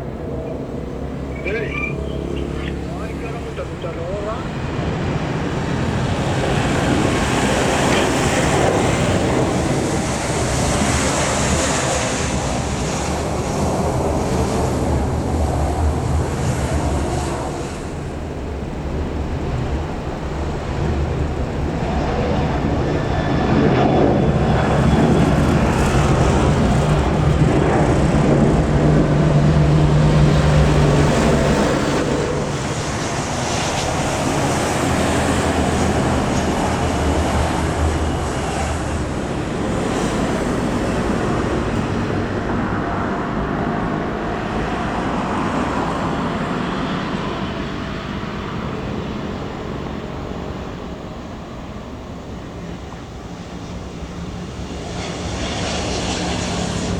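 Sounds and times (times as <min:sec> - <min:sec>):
jet airliner engine roar: 0:00.0 - 0:56.9.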